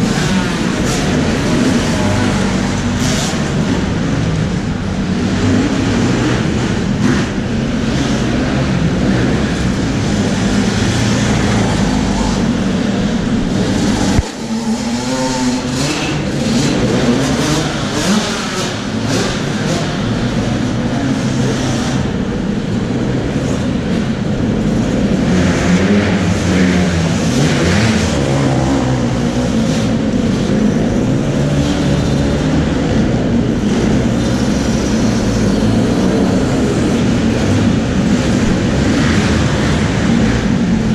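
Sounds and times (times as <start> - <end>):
motorbike engines revving: 0.0 - 40.9.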